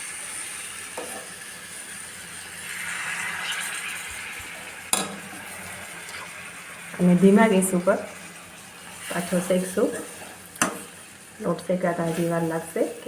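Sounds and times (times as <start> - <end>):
flour sizzling in a pan: 0.0 - 13.0.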